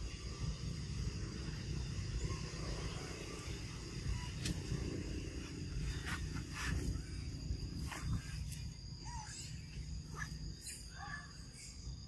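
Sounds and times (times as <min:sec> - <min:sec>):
outdoor rumble: 0:00.0 - 0:11.6.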